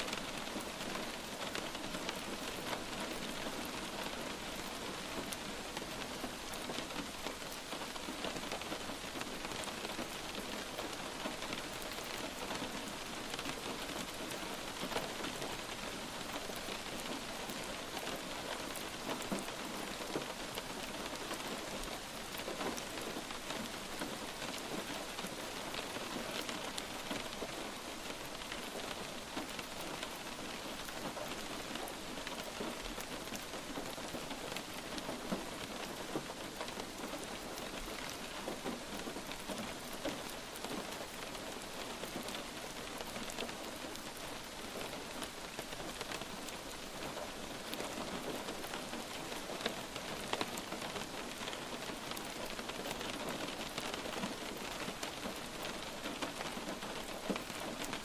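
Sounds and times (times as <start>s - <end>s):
light rain hissing: 0.0s - 58.0s
raindrops pattering on surface: 0.0s - 58.0s.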